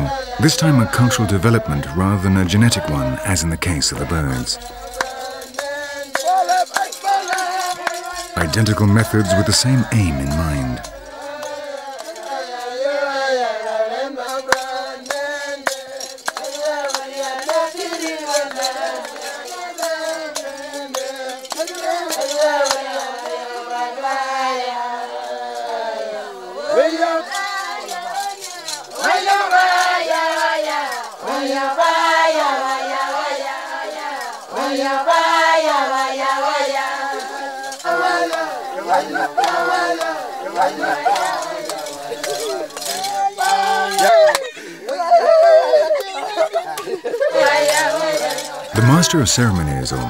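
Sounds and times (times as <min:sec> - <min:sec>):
voices chanting together: 0:00.0 - 0:50.0.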